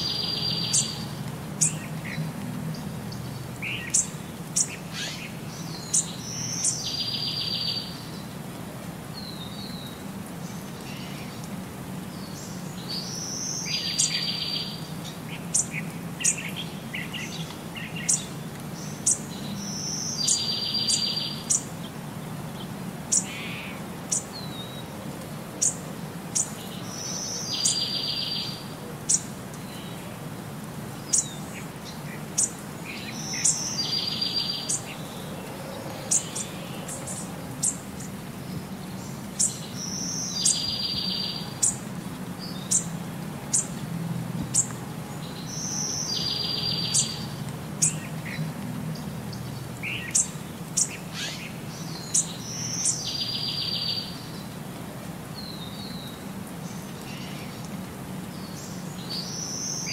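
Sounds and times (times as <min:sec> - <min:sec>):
birds chirping: 0:00.0 - 0:08.5, 0:09.1 - 0:30.3, 0:30.9 - 0:43.8, 0:44.4 - 0:54.7.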